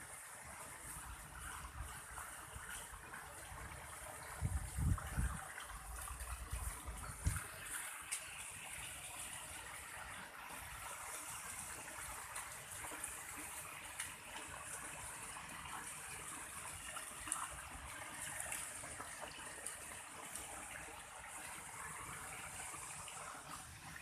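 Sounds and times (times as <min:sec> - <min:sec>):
water pouring over waterfall: 0:00.0 - 0:24.0.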